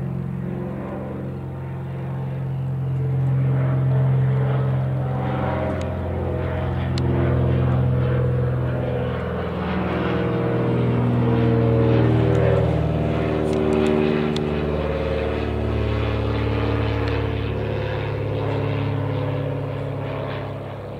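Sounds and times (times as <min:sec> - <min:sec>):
propeller plane engines droning: 0:00.0 - 0:20.9.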